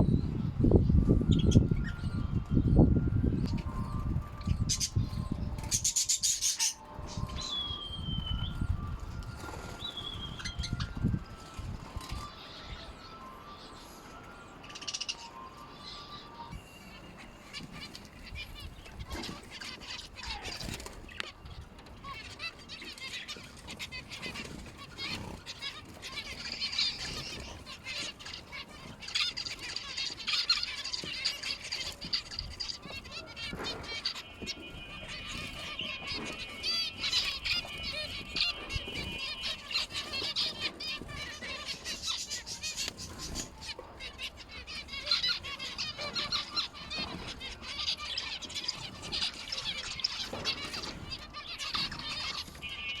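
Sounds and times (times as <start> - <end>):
caged birds chirping and chattering: 0.0 - 53.0.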